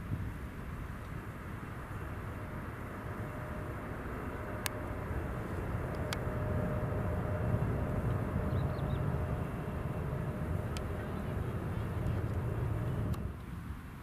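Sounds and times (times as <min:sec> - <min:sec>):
aircraft cabin engine rumble: 0:00.0 - 0:13.6
faint steady hum: 0:00.0 - 0:14.0.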